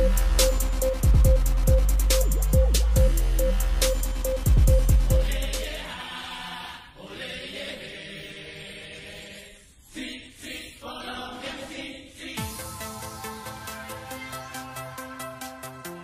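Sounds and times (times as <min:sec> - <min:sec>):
choir-like chanting music: 0:00.0 - 0:16.0.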